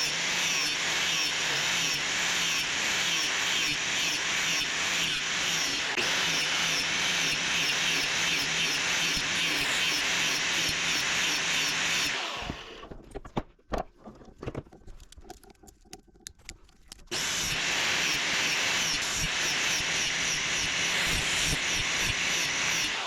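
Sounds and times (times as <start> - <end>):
angle grinder cutting metal: 0.0 - 12.8, 17.1 - 23.0.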